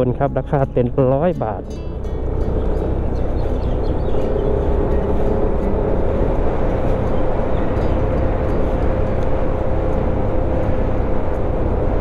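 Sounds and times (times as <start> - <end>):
wind and road noise: 0.0 - 12.0
scooter engine: 1.9 - 12.0.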